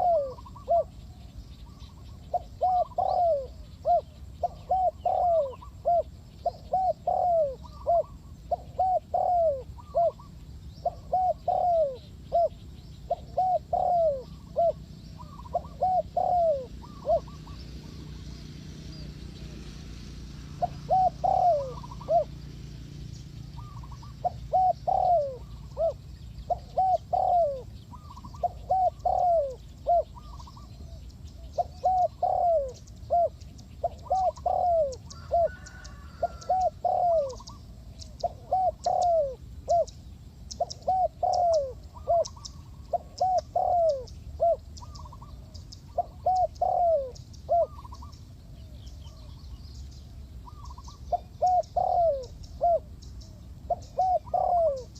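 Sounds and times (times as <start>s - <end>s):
dove cooing: 0.0s - 49.6s, 50.4s - 54.9s.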